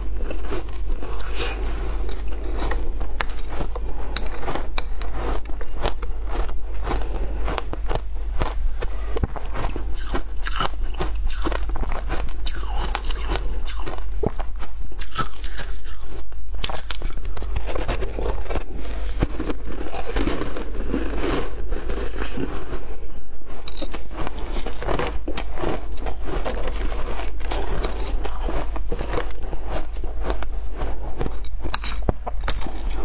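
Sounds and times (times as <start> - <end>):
ice crunching between teeth: 0.0 - 33.0.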